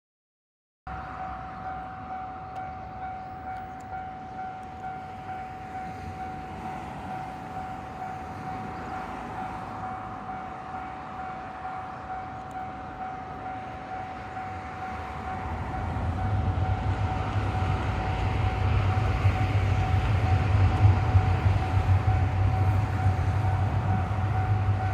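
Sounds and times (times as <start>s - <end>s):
level crossing warning bell: 0.9s - 24.9s
low rumble of train: 0.9s - 24.9s.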